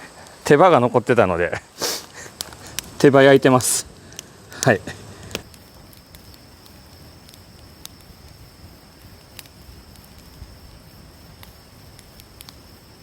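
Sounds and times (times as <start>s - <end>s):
campfire hissing: 0.0s - 13.0s
campfire crackling pops: 0.2s - 13.0s.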